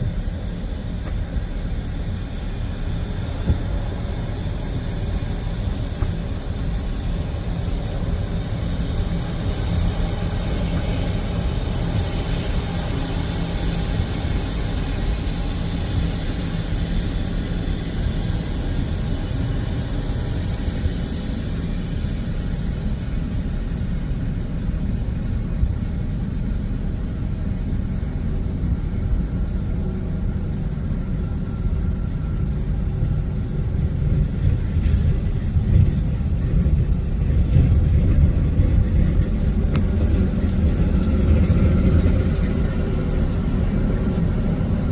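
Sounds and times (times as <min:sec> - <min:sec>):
high engine whine: 0:00.0 - 0:44.9
jet engines rumbling: 0:00.0 - 0:44.9.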